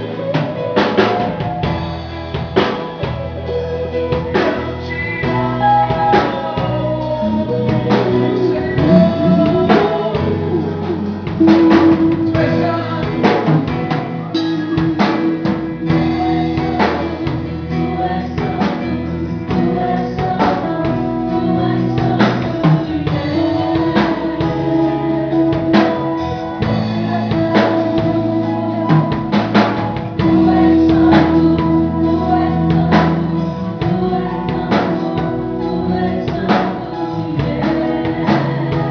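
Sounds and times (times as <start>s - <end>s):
band playing worship music: 0.0s - 38.9s
drum kit beat: 0.0s - 38.9s
person singing: 2.6s - 38.9s.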